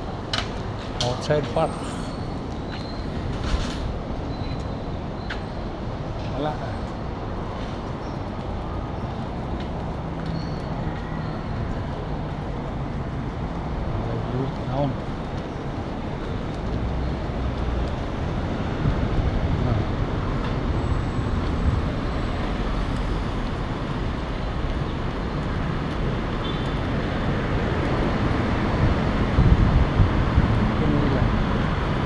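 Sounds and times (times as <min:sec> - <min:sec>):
road traffic noise: 0:00.0 - 0:32.0
vehicles passing close by: 0:00.0 - 0:32.0.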